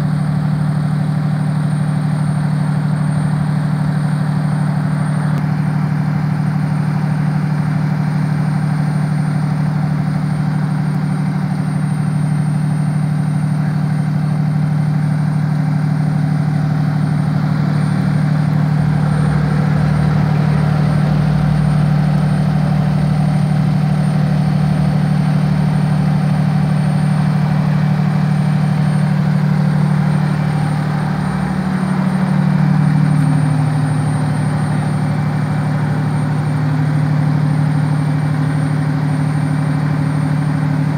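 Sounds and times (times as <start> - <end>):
diesel engine high idle: 0.0 - 40.9.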